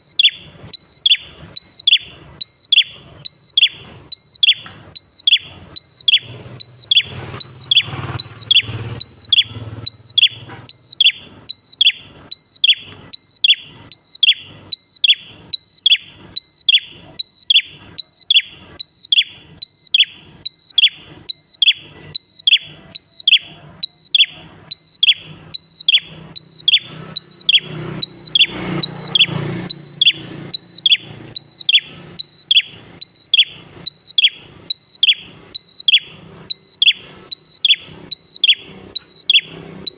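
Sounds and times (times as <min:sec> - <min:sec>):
bird calling high whistled notes: 0:00.0 - 0:39.9.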